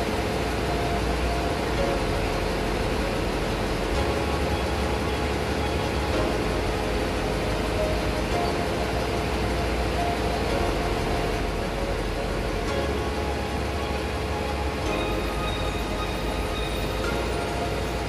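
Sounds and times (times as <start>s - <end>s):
ship engine room machinery: 0.0s - 18.0s
steady hum: 0.0s - 18.0s.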